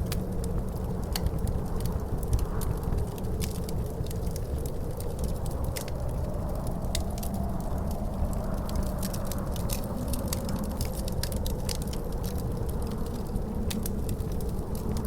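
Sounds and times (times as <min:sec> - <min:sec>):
wind rumbling and howling: 0:00.0 - 0:15.0
wood fire crackling: 0:00.0 - 0:15.0.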